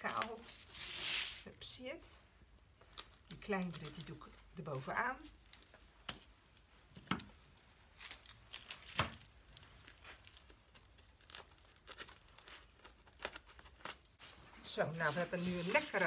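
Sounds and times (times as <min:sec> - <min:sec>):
conifer sprigs rustling: 0:02.8 - 0:16.0.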